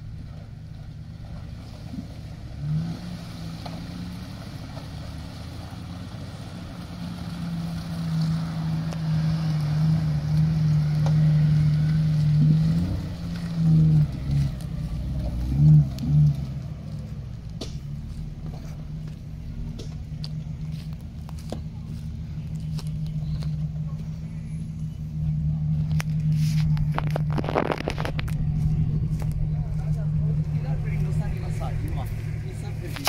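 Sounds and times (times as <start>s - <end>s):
engine revving: 0.0s - 33.0s
off-road vehicle engine running: 0.0s - 33.0s.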